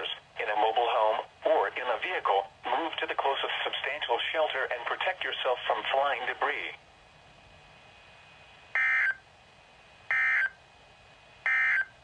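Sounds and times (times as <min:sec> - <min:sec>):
faint radio hiss: 0:00.0 - 0:12.0.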